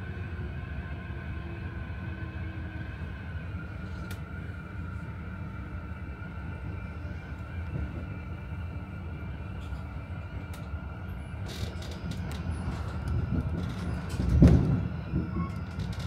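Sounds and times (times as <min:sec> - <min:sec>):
high train whine: 0:00.0 - 0:16.0
wheels rumbling on rails: 0:02.9 - 0:16.0.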